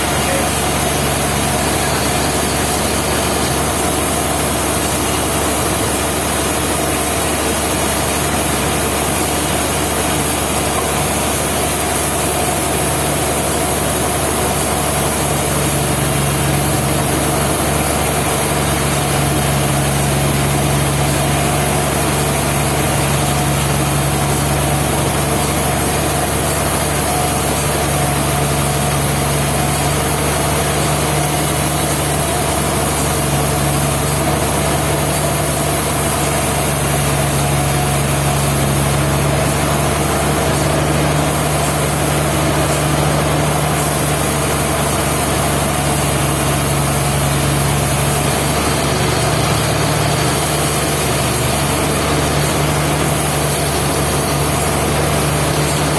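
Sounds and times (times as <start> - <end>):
sawmill machinery droning: 0.0 - 55.9.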